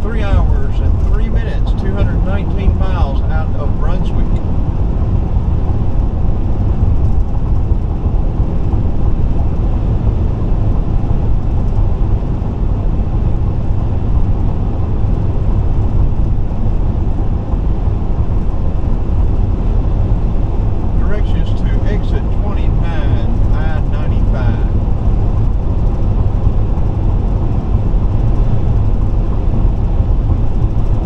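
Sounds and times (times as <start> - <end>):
road and tyre noise inside car: 0.0 - 31.0.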